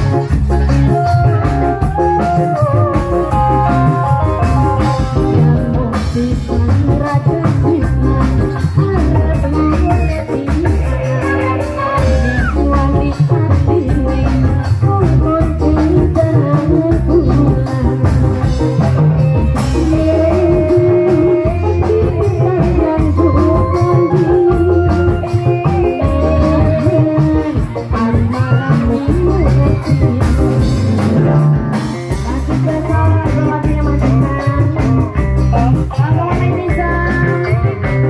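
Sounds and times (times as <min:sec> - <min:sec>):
drums keeping a steady beat: 0:00.0 - 0:38.0
person singing: 0:00.0 - 0:38.0.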